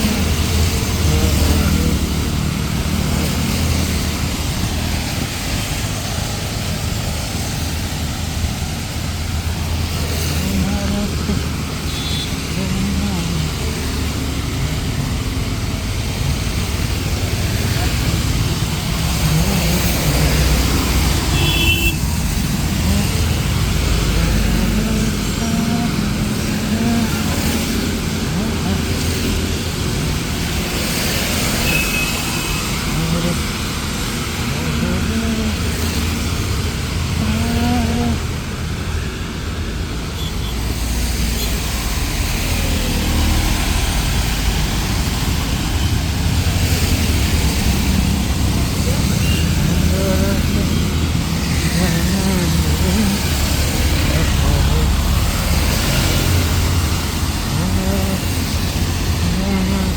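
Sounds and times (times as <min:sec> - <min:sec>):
heavy rain falling: 0:00.0 - 0:59.9
traffic rumble: 0:00.0 - 0:59.9.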